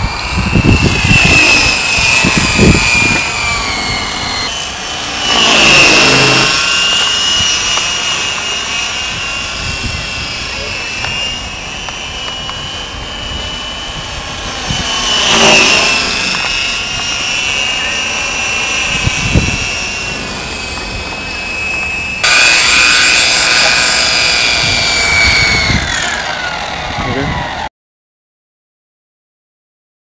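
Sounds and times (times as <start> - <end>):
rc helicopter rotor whine: 0.0 - 27.7.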